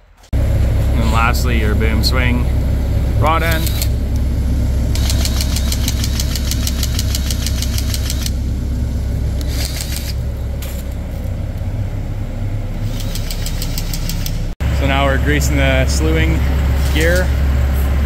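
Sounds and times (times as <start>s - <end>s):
diesel engine idling: 0.3s - 18.0s.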